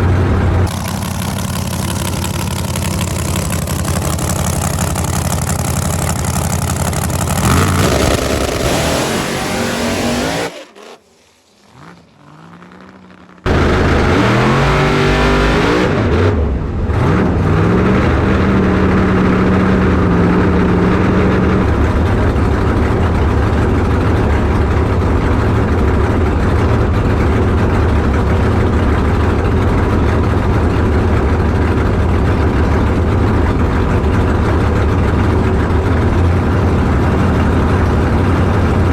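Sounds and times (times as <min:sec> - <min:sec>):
drag car engine revving: 0:00.0 - 0:38.9.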